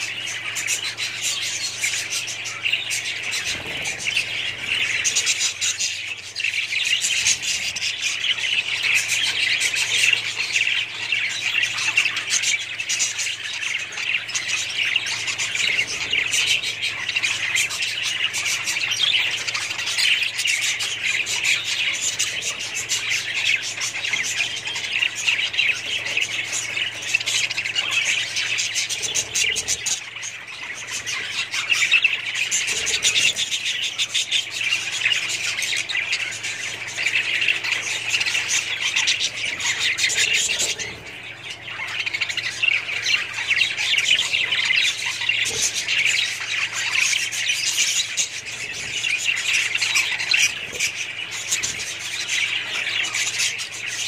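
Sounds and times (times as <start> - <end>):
budgerigars chattering and chirping: 0.0 - 54.0.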